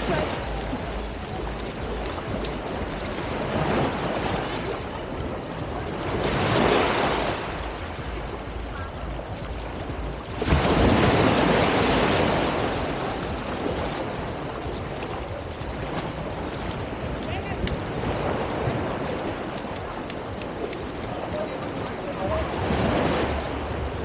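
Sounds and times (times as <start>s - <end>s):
sea surf washing on beach: 0.0s - 24.0s.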